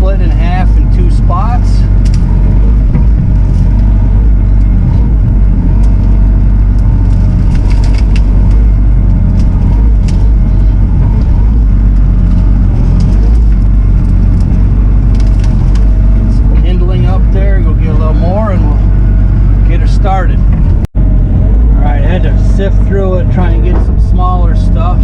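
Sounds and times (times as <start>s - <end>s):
diesel engine running: 0.0s - 25.0s
wavering hydraulic whine: 0.0s - 25.0s.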